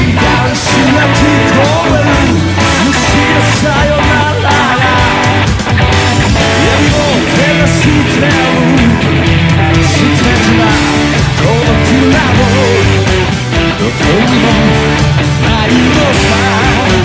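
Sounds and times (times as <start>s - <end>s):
bass and drum beat: 0.0s - 17.0s
electric guitar lead line: 0.0s - 17.0s.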